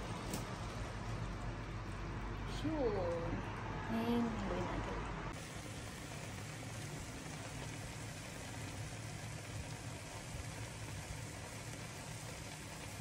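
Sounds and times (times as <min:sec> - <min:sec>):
pot simmering and bubbling: 0:00.0 - 0:13.0.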